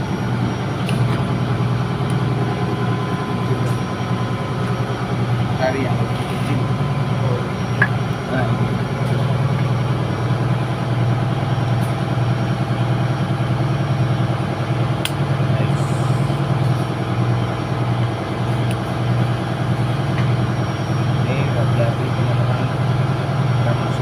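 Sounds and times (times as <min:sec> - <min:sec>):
engine room machinery droning: 0:00.0 - 0:24.0.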